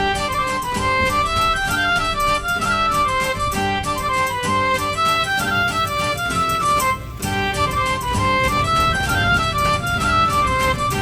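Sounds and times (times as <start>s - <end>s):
lively fiddle tune: 0.0s - 11.0s.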